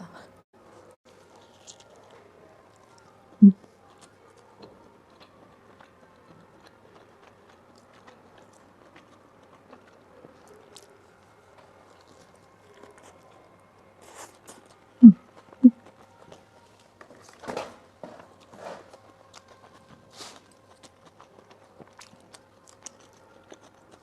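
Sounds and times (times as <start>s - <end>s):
biting and chewing food: 1.1s - 24.0s.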